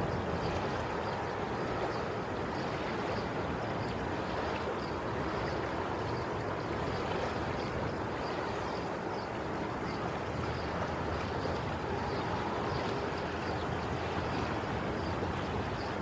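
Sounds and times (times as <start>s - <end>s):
sea waves washing: 0.0s - 16.0s.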